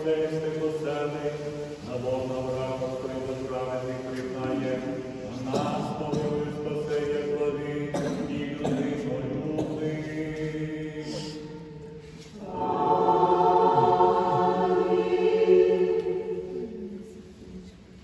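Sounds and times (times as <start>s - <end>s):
choir singing a slow chant: 0.0s - 18.0s.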